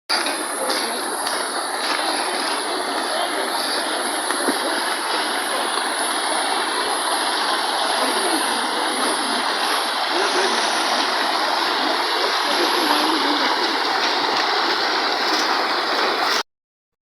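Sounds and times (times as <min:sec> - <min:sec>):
stream water rushing: 0:00.1 - 0:16.4.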